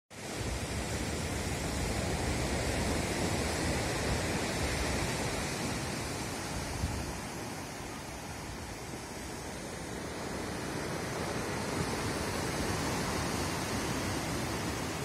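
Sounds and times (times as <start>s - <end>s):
surf breaking on shore: 0.2s - 15.0s
wind buffeting microphone: 0.2s - 15.0s.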